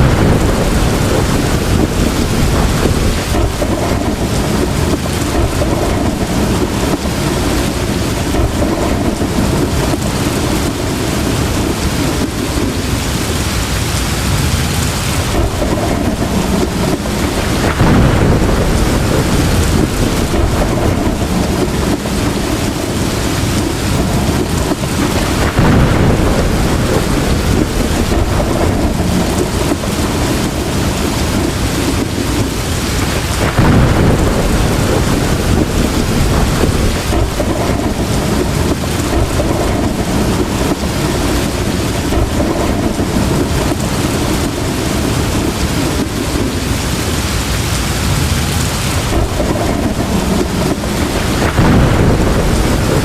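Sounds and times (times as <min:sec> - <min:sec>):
heavy rain pouring: 0:00.0 - 0:53.0
low rolling thunder: 0:00.0 - 0:53.0.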